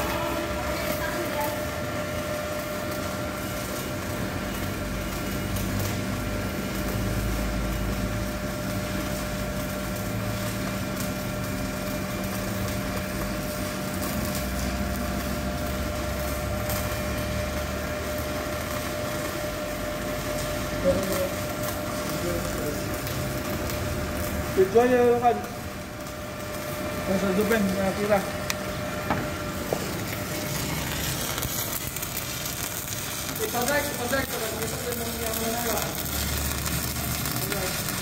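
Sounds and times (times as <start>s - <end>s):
faint crackle of welding arc: 0.0s - 38.0s
welding machine hum: 0.0s - 38.0s.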